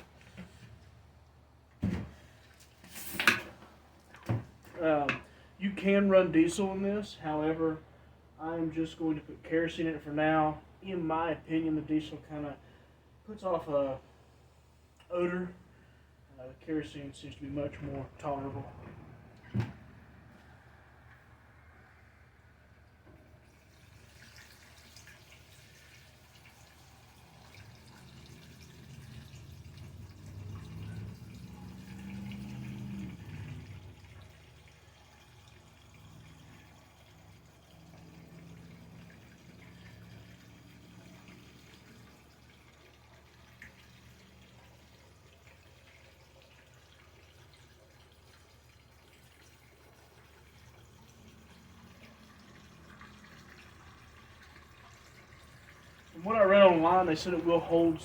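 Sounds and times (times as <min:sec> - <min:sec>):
liquid pouring through a funnel: 0:00.0 - 0:58.0.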